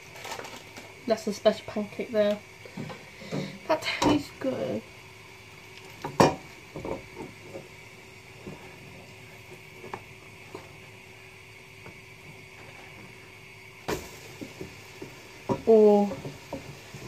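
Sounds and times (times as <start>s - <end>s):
kitchen background hum: 0.0s - 17.0s.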